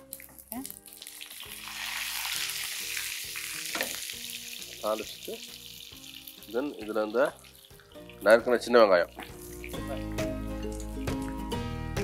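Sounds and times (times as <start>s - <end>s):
leaves sizzling in hot oil: 0.0s - 11.6s
soft background music: 0.0s - 12.0s.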